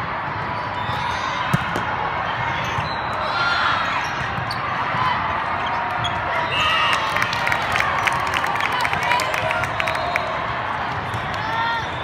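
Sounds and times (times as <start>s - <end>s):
murmur of spectators: 0.0s - 12.0s.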